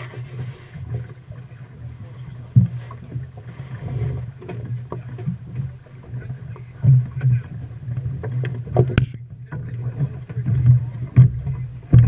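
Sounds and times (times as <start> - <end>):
rumble of wind and water: 0.0 - 12.0.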